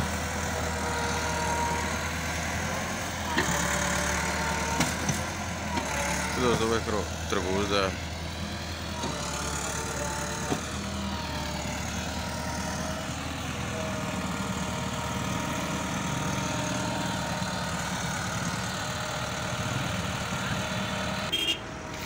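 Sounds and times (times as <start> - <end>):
diesel tractor engine running: 0.0 - 22.0.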